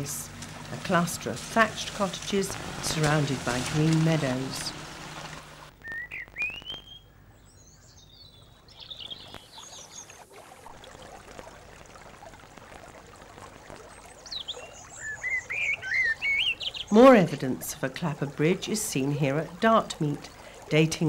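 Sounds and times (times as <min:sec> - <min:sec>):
stream running over stones: 0:00.0 - 0:05.7, 0:08.5 - 0:21.0
songbirds chirping: 0:00.0 - 0:10.2, 0:13.8 - 0:21.0.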